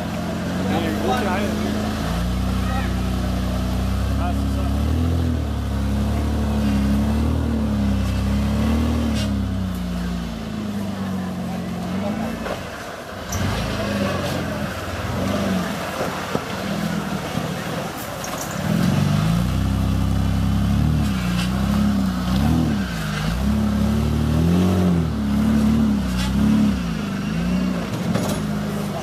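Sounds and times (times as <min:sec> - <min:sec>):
truck engine revving: 0:00.0 - 0:29.0.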